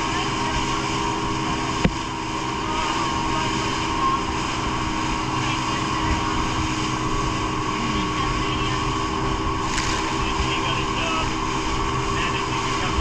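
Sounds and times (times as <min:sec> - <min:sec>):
motorboat engine running: 0:00.0 - 0:13.0
water splashing past hull: 0:00.0 - 0:13.0.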